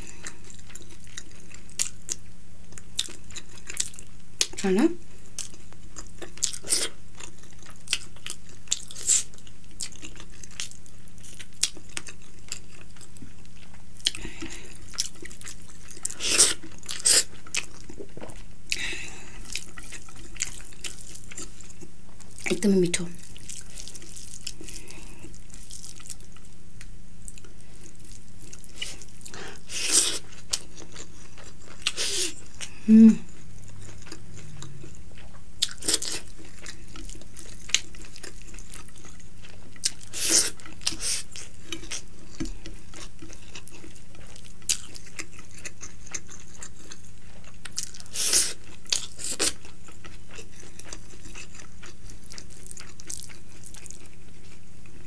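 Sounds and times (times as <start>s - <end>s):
person chewing: 0.0s - 4.6s, 5.3s - 55.0s
steady low hum: 0.0s - 47.8s.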